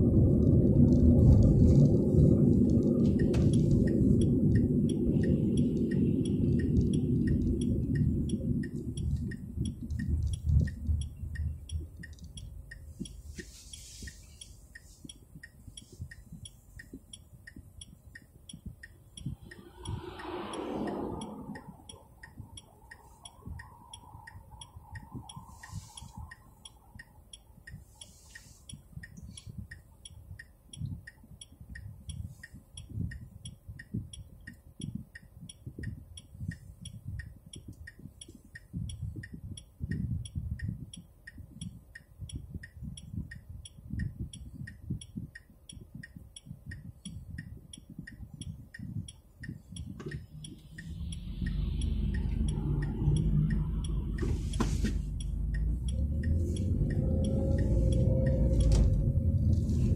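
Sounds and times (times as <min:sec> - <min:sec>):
low rumble of car: 0:00.0 - 0:59.9
turn signal ticking: 0:00.0 - 0:59.9.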